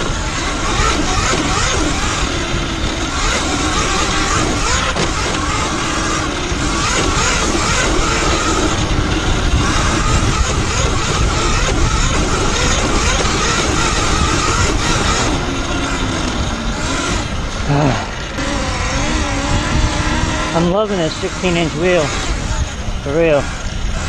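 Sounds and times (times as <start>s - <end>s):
electric motor whine: 0.0s - 24.0s
wind rush on microphone: 0.0s - 24.0s.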